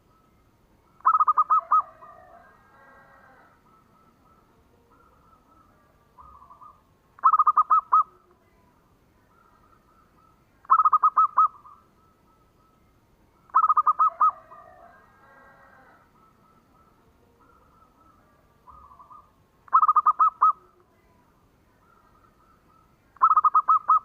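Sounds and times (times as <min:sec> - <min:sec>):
dove cooing staccato notes: 0:01.0 - 0:08.3, 0:09.3 - 0:12.5, 0:13.4 - 0:20.9, 0:21.8 - 0:24.0
faint dove coos: 0:01.0 - 0:11.9, 0:13.5 - 0:24.0.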